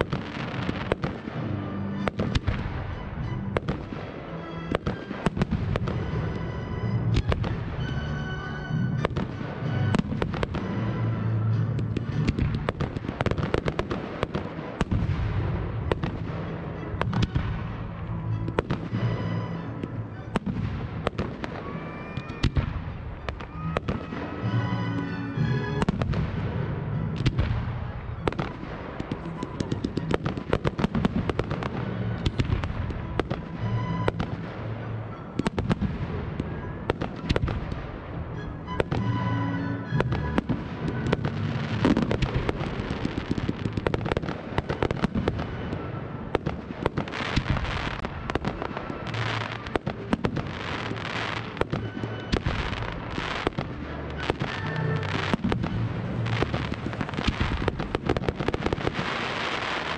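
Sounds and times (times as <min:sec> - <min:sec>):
background music: 0:00.0 - 0:59.9
fireworks bursting: 0:00.0 - 0:59.9.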